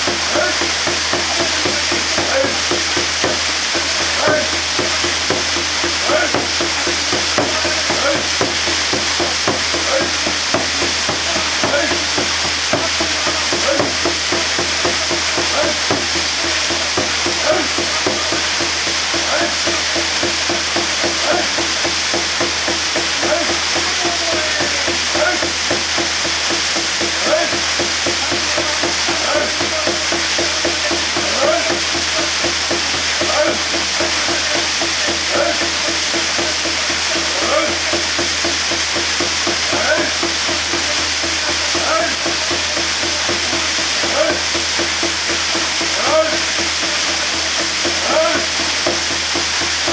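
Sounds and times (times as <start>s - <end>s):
waterfall pouring onto rocks: 0.0s - 49.9s.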